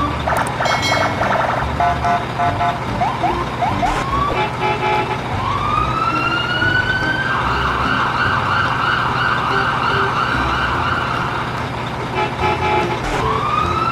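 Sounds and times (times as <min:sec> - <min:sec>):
siren wailing and warbling: 0:00.0 - 0:04.5, 0:05.3 - 0:11.5, 0:13.0 - 0:13.9.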